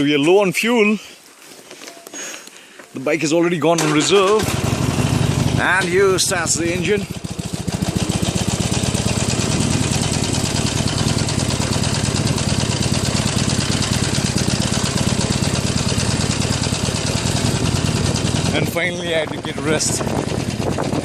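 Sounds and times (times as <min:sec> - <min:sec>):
motorcycle engine starting and idling: 0:03.6 - 0:21.0.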